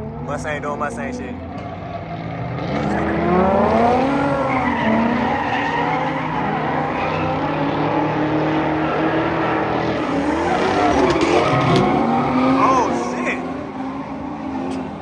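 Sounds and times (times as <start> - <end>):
car engine revving: 1.3 - 15.0
tyres skidding: 1.4 - 15.0.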